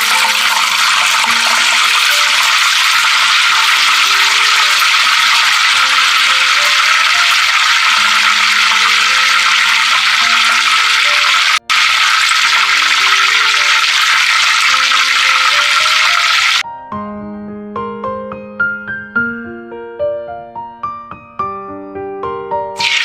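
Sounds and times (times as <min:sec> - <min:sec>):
soft piano music: 0:00.0 - 0:11.7, 0:14.7 - 0:22.9.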